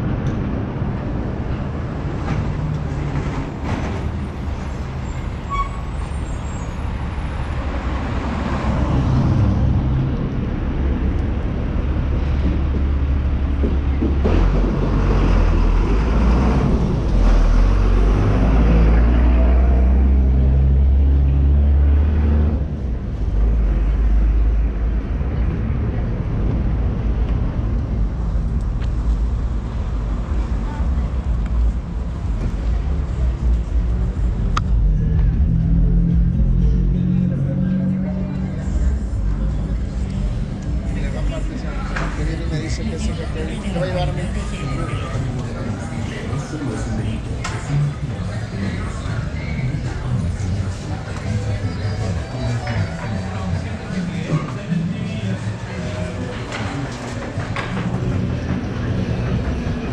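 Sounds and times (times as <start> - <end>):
traffic rumbling past: 0.0 - 59.9.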